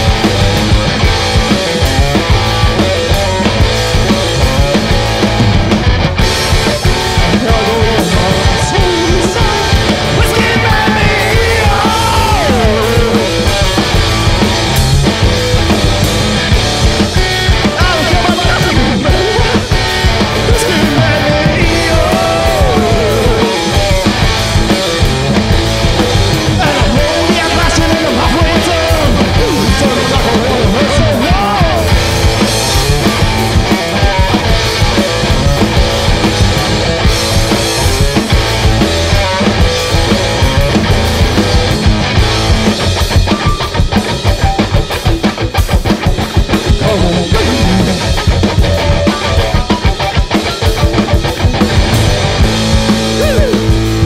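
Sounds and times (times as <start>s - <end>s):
lead guitar bending notes: 0.0s - 54.0s
punk band playing loudly: 0.0s - 54.0s.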